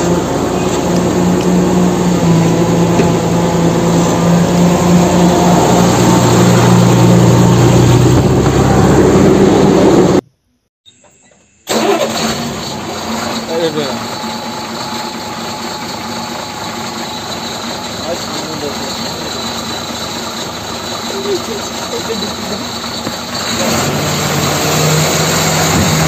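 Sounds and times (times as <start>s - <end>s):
engine humming: 0.0s - 10.2s, 11.6s - 26.0s.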